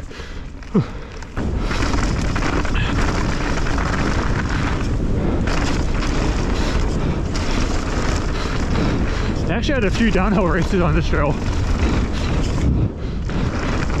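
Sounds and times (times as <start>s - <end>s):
bike rattling: 0.0s - 14.0s
tyres rumbling over dirt and rock: 0.0s - 14.0s
wind buffeting microphone: 0.0s - 14.0s.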